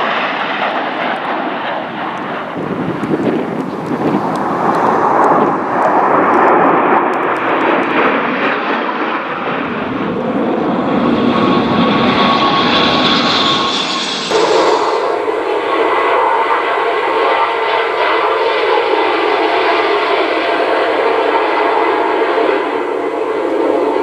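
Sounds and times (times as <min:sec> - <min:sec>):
high jet whine: 0:00.0 - 0:24.0
jet engine roar: 0:00.0 - 0:24.0.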